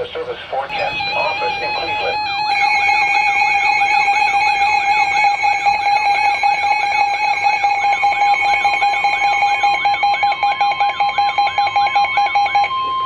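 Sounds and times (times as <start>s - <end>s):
higher alarm tone: 0.6s - 13.0s
warbling electronic alarm tone: 0.6s - 13.0s.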